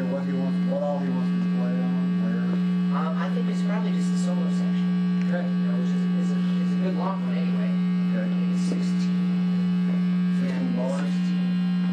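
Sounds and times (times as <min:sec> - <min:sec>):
faint talking: 0:00.0 - 0:11.4
electrical mains hum: 0:00.0 - 0:11.9.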